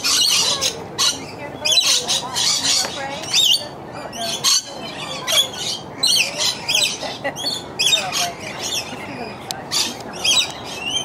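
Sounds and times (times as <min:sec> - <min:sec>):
birds squawking: 0:00.0 - 0:11.0.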